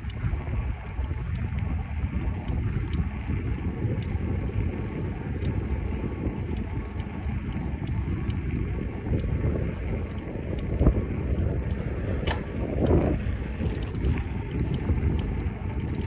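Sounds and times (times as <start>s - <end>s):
bicycle tyre rumble: 0.0s - 16.0s
faint light ticks: 0.0s - 16.0s
wind buffeting microphone: 0.0s - 16.0s.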